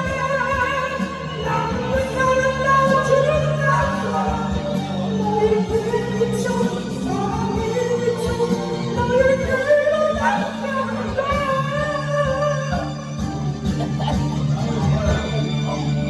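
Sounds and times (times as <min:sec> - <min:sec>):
music with singing voice: 0:00.0 - 0:16.0.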